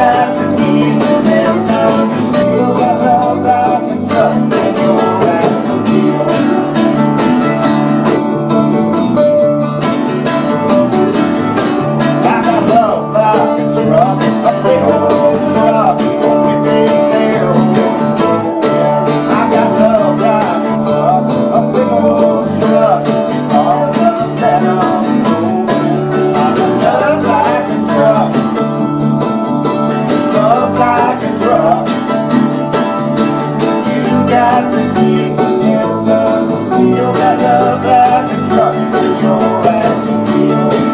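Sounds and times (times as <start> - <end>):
man singing: 0.0 - 7.1, 12.0 - 28.8, 29.9 - 40.9
acoustic band playing: 0.0 - 40.9.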